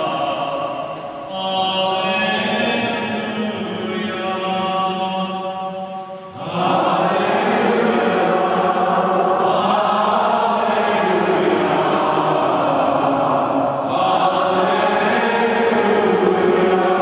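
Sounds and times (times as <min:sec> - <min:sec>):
congregation singing: 0:00.0 - 0:17.0.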